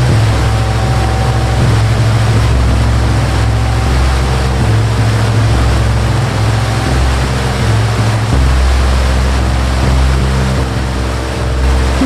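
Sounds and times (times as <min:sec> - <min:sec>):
low deep shifting tones: 0:00.0 - 0:12.0
waterfall rushing: 0:00.0 - 0:12.0.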